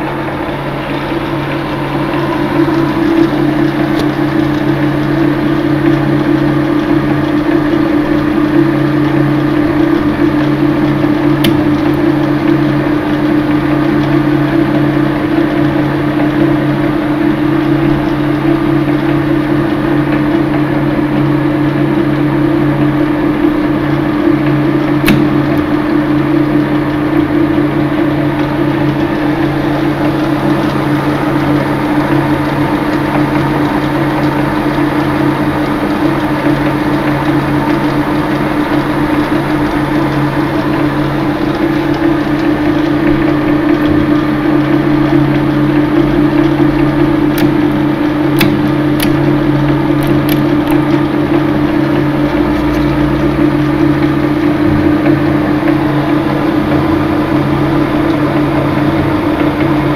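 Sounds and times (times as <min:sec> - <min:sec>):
lathe motor humming: 0:00.0 - 0:59.9.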